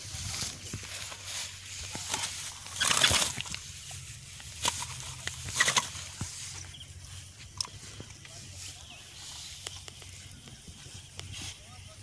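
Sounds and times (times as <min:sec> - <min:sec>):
grass rustling: 0:00.0 - 0:12.0.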